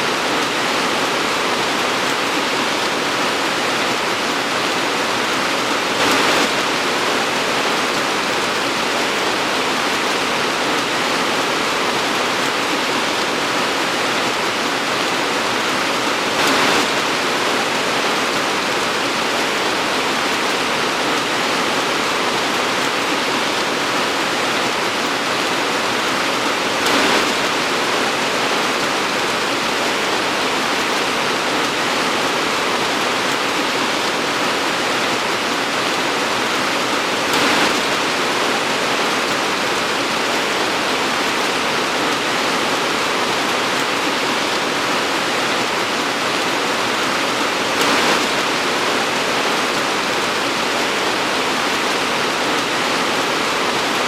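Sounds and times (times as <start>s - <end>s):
torrential rain: 0.0s - 54.0s.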